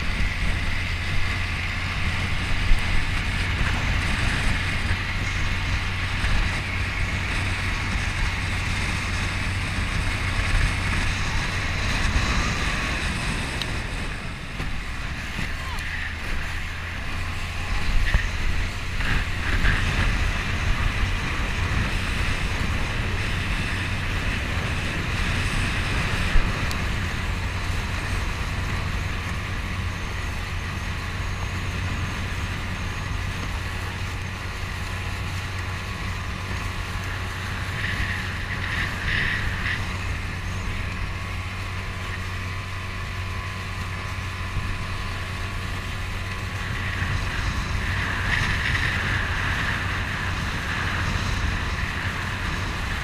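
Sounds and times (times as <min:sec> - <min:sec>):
outboard motor running: 0:00.0 - 0:53.0
wind buffeting microphone: 0:00.0 - 0:53.0.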